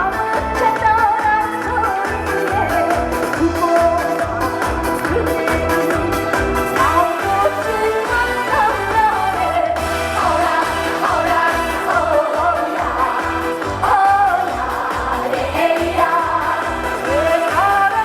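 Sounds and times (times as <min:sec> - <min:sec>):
backing track with bass beat: 0:00.0 - 0:18.0
woman singing: 0:00.0 - 0:18.0.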